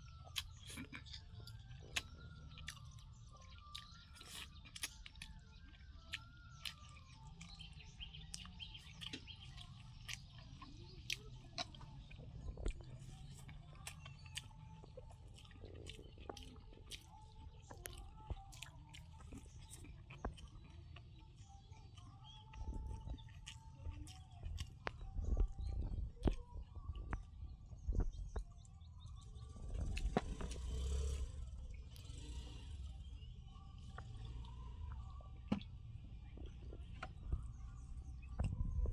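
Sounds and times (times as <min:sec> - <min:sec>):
wet chewing: 0:00.0 - 0:32.6, 0:33.9 - 0:37.6
faint bird chirps: 0:00.0 - 0:38.9.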